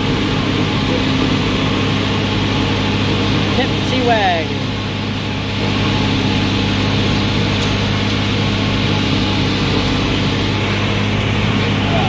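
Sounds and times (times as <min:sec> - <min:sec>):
forage harvester whirring: 0:00.0 - 0:12.0
tractor engine drone: 0:00.0 - 0:12.0.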